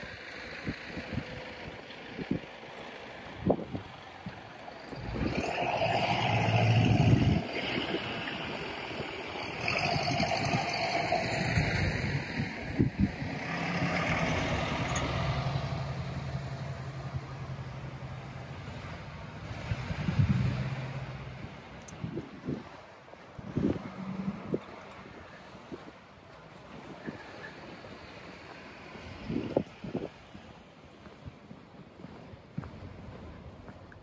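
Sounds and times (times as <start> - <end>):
low engine hum: 0.0 - 34.0
vehicles passing on snow: 0.0 - 34.0.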